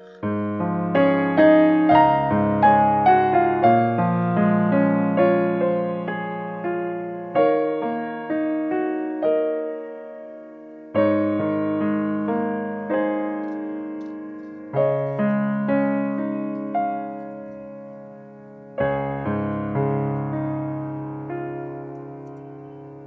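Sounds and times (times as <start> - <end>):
slow piano piece: 0.0 - 23.0.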